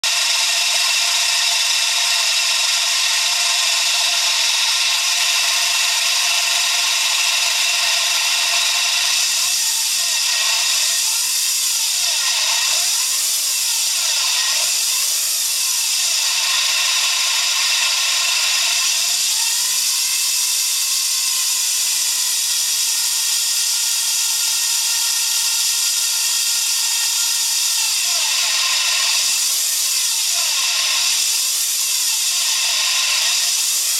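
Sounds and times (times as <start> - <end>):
high-pitched alternator whine: 0.0 - 33.9.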